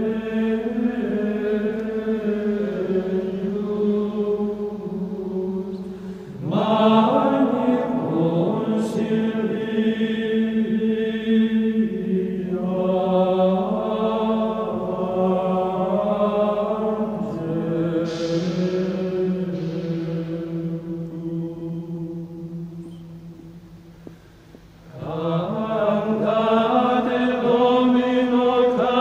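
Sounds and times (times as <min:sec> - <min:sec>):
slow sung chant: 0:00.0 - 0:29.0.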